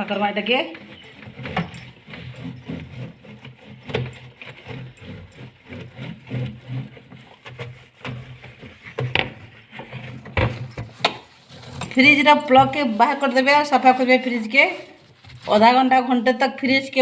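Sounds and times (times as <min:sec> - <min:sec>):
objects knocking and clattering: 0:00.0 - 0:15.7.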